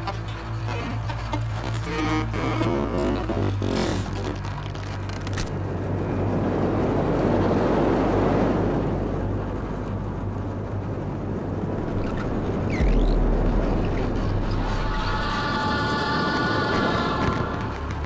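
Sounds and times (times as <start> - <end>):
deeper hum: 0.0 - 18.0
low hum: 0.0 - 18.0
rushing ambient noise: 0.0 - 18.0.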